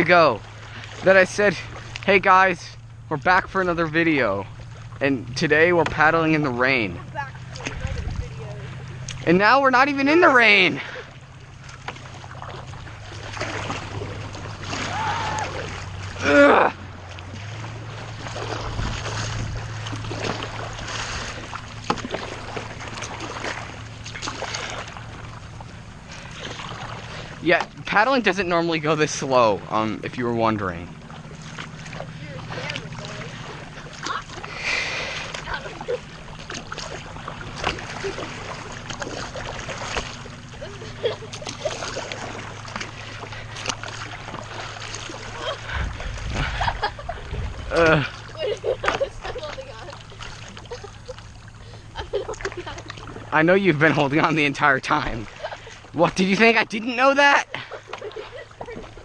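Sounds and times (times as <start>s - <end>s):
paddle splashing in water: 0.0s - 59.0s
steady low hum: 0.0s - 59.0s.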